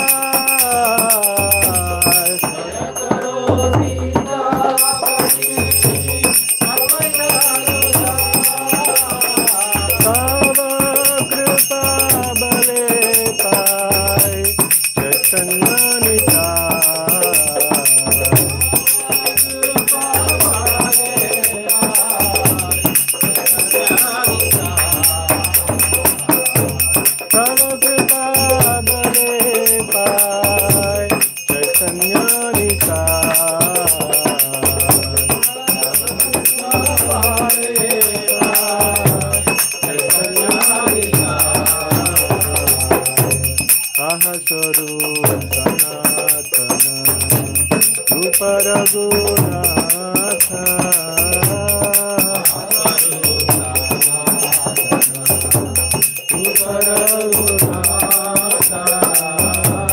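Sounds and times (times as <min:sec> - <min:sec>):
devotional singing: 0:00.0 - 0:59.9
jingling bells and hand cymbals: 0:00.0 - 0:59.9.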